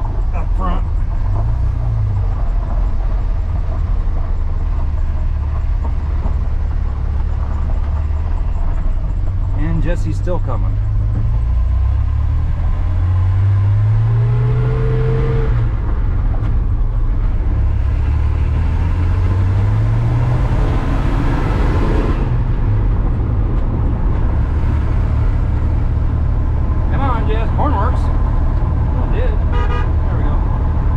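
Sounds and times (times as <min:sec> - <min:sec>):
car engine accelerating: 0:00.0 - 0:30.9
tyres on gravel road: 0:00.0 - 0:30.9.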